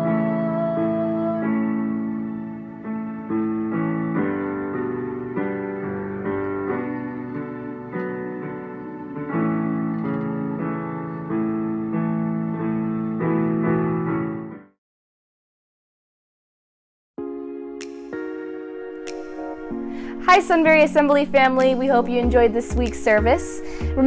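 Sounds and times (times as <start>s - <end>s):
slow sustained piano chords: 0.0s - 14.6s, 17.2s - 24.0s.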